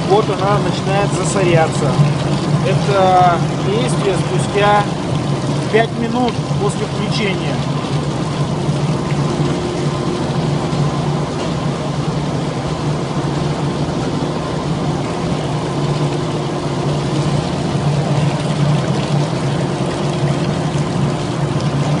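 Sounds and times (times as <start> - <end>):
machine drone: 0.0 - 22.0
pouring water: 0.0 - 22.0.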